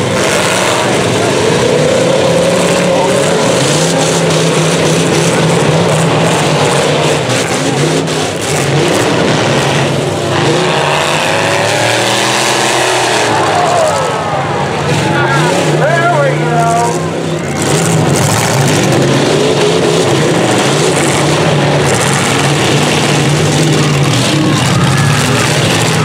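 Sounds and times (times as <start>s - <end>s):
engines revving loudly: 0.0s - 26.0s.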